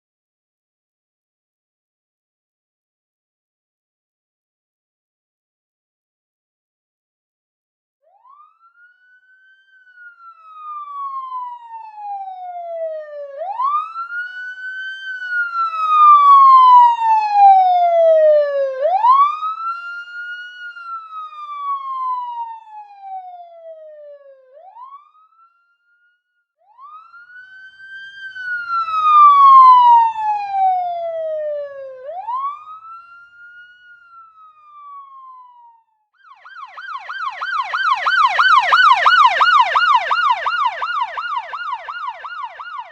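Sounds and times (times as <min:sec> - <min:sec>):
police siren wailing: 0:08.1 - 0:42.9.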